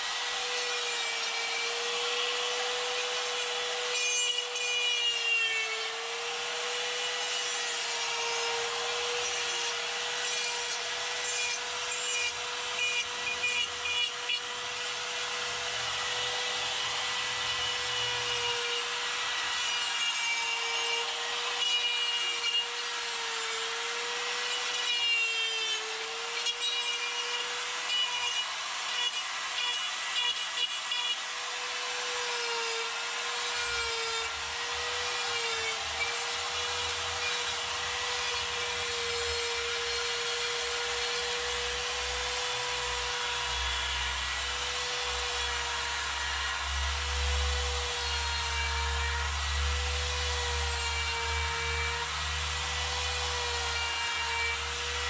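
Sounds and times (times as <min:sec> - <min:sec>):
die grinder grinding wood: 0:00.0 - 0:55.0.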